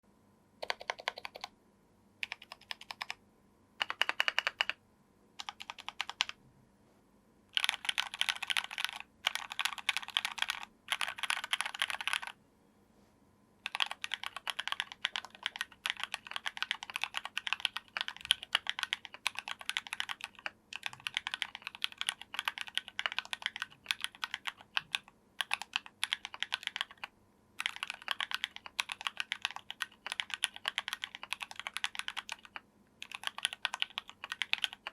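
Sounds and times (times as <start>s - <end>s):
mechanical keyboard typing: 0.6s - 1.5s, 2.2s - 3.2s, 3.8s - 4.8s, 5.4s - 6.4s, 7.5s - 12.4s, 13.6s - 34.9s.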